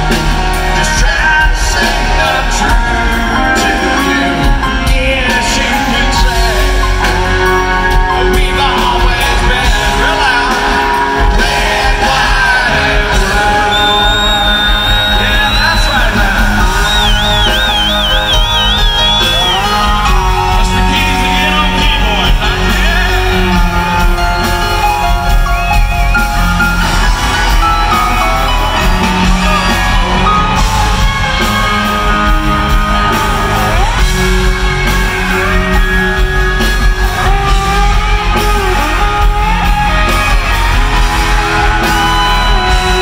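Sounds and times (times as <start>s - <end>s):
person singing: 0.0s - 26.5s, 27.2s - 43.0s
drums: 0.0s - 43.0s
electric guitars: 0.0s - 43.0s
piano: 0.0s - 43.0s.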